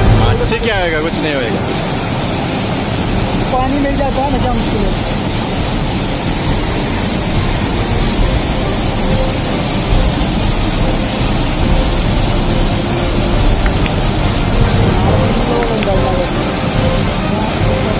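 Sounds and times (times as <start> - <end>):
flood water rushing: 0.0 - 17.9.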